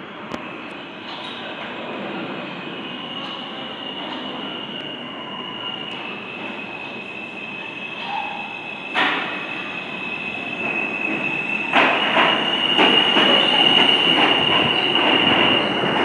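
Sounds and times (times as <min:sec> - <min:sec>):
subway train rumble: 0:00.0 - 0:16.0
high-pitched wheel squeal: 0:02.7 - 0:16.0.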